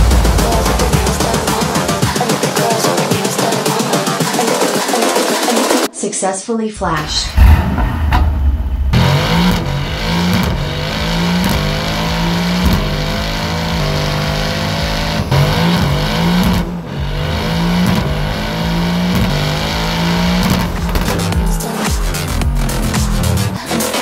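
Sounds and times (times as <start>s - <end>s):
car engine revving: 0.0s - 4.6s, 6.8s - 24.0s.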